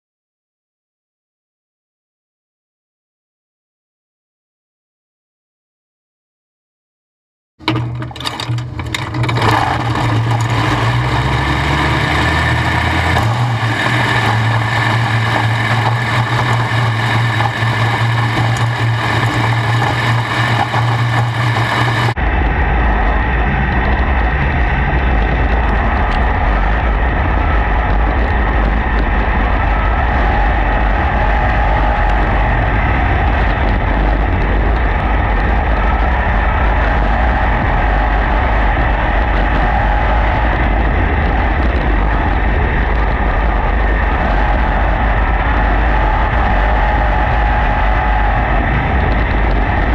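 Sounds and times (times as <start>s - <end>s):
race car engines droning: 7.6s - 49.9s.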